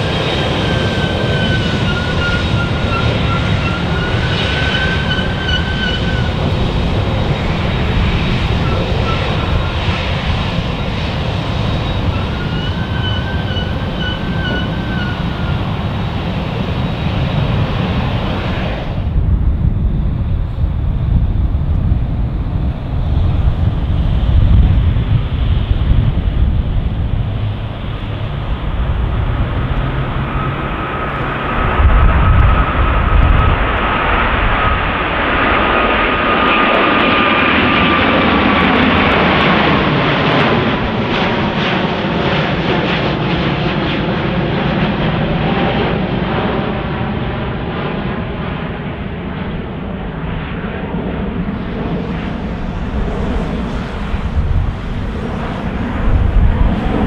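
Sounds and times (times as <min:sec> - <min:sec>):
airliner engines passing: 0:00.0 - 0:57.0
wind gusts on microphone: 0:00.0 - 0:57.0.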